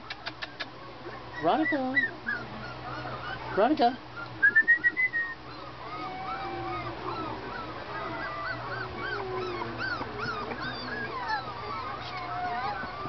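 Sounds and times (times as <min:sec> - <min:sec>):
puppies whimpering and squeaking: 0:00.0 - 0:13.0
puppy yips: 0:00.0 - 0:13.0.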